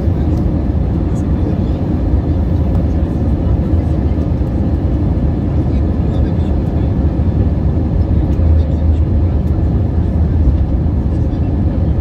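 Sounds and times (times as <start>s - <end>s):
jet engines in cabin: 0.0s - 12.0s.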